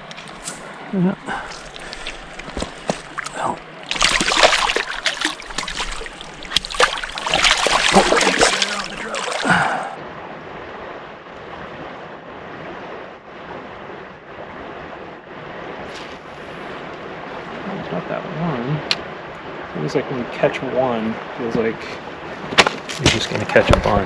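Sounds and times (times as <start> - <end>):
flowing river water: 0.0 - 24.0
water splashing at river edge: 0.0 - 24.0
wind: 0.0 - 24.0.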